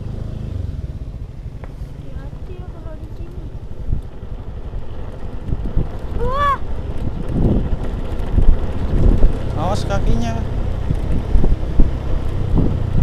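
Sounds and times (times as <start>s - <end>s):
low rumble: 0.0s - 13.0s
wind buffeting microphone: 1.8s - 13.0s.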